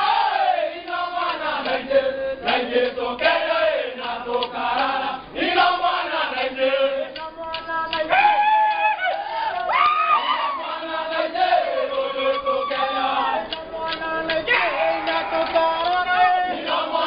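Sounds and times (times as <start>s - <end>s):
group chanting a song: 0.0s - 17.0s.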